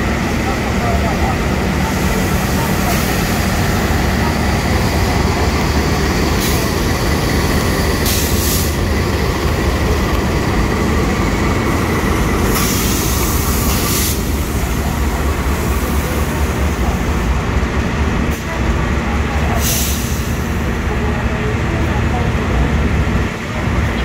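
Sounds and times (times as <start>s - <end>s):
diesel engine low drone: 0.0s - 24.0s
train wheels on rails: 0.0s - 24.0s.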